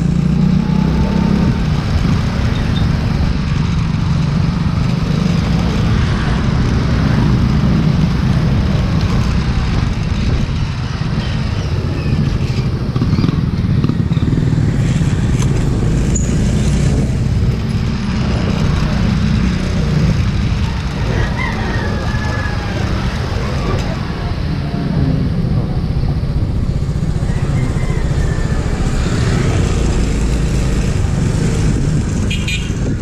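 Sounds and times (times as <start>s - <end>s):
motorcycle engine running: 0.0s - 33.0s
road and traffic noise: 0.0s - 33.0s.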